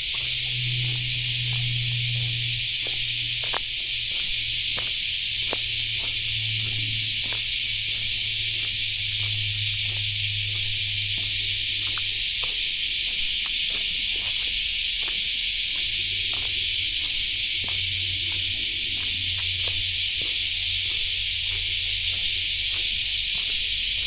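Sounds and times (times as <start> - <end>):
faint footsteps on path: 0.0 - 24.0
low hum: 0.0 - 24.0
shrill insect chorus: 0.0 - 24.0.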